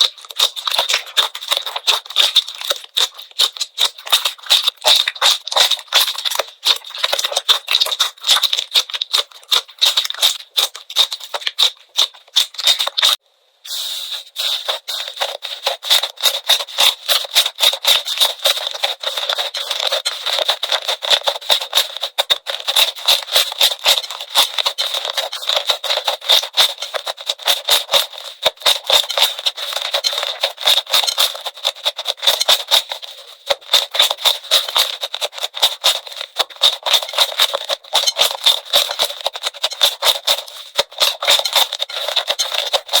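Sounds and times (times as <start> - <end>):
slime clicking and popping: 0.0 - 13.2, 14.4 - 43.0.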